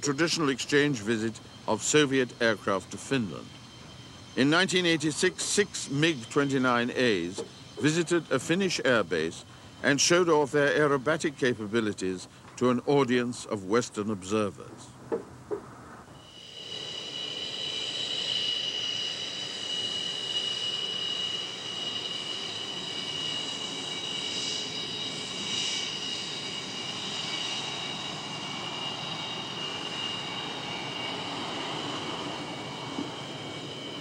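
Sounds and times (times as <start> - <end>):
jet engines whining and roaring: 0.0 - 34.0.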